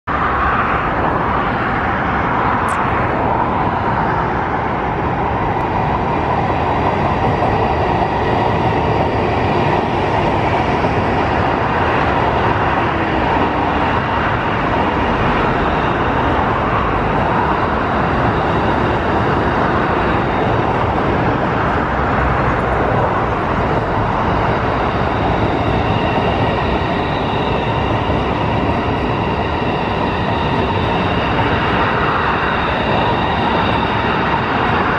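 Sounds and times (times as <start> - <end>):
train wheels rumbling: 2.6 - 34.9.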